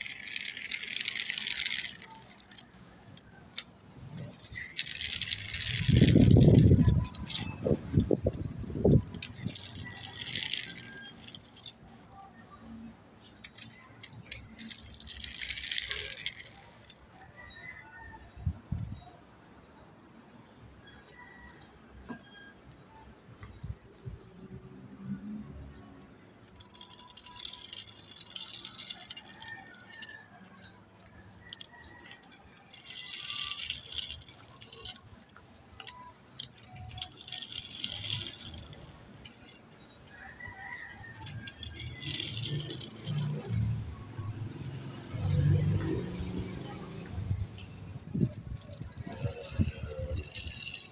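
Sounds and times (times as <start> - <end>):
toy cars rolling on concrete: 0.0 - 19.0, 20.9 - 22.8, 23.4 - 50.9.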